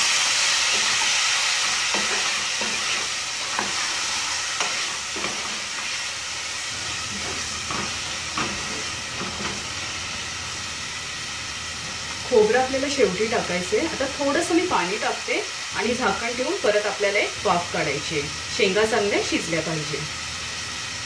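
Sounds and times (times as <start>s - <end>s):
food sizzling in saucepan: 0.0s - 21.0s.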